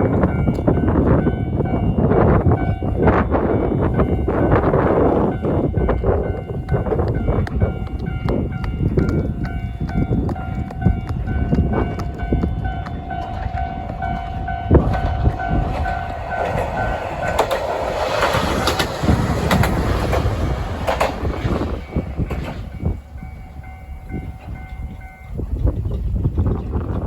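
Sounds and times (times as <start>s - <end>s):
diesel train passing: 0.0s - 27.0s
wind buffeting microphone: 0.0s - 27.0s
train wheels clicking over rail joints: 4.6s - 27.0s.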